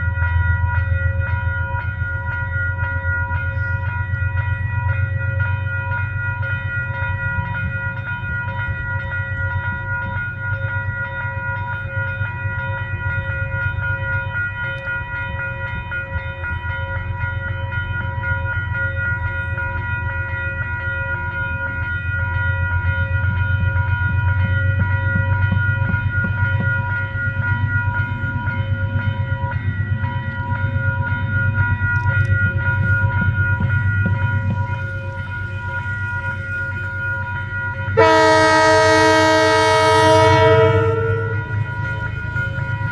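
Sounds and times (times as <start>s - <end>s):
diesel locomotive running: 0.0s - 42.9s.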